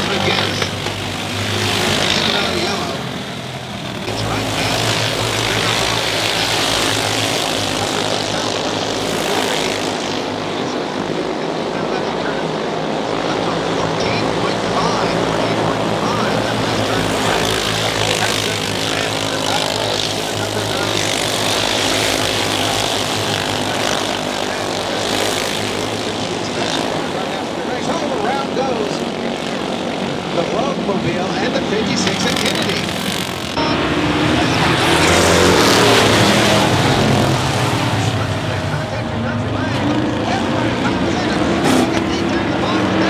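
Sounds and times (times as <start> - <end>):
race car engine drone: 0.0 - 43.0.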